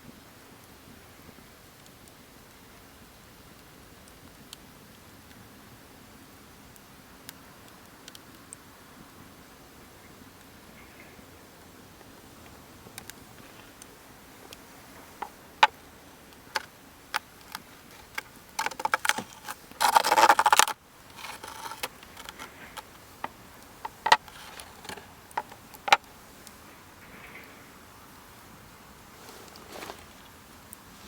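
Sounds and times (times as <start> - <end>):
wood fire crackling: 0.4 - 31.0.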